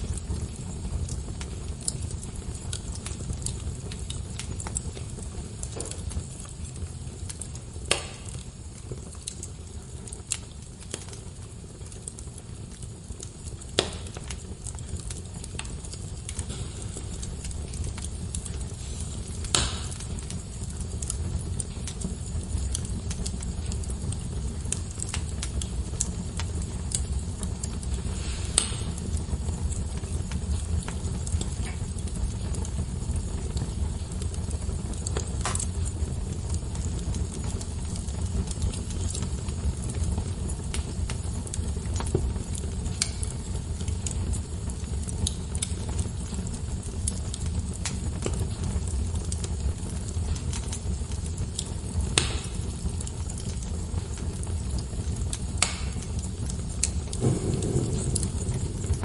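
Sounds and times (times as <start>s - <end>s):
fire crackling and popping: 0.0s - 59.0s
fire flames rushing: 0.0s - 59.0s.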